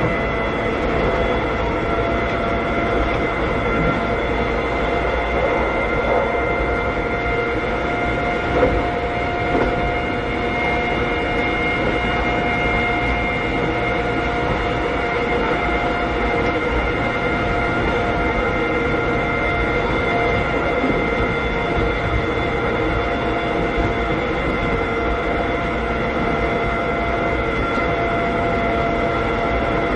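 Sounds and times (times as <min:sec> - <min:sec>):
train motor whine: 0:00.0 - 0:29.9
wheels rumbling on rails: 0:00.0 - 0:29.9.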